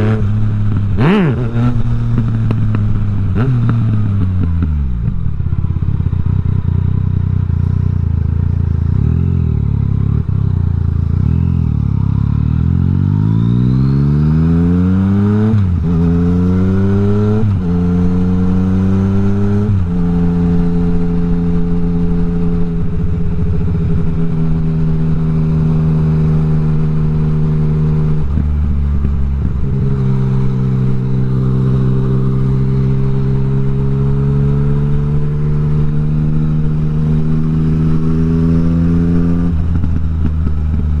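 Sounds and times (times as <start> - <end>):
motorcycle engine revving and shifting: 0.0 - 41.0.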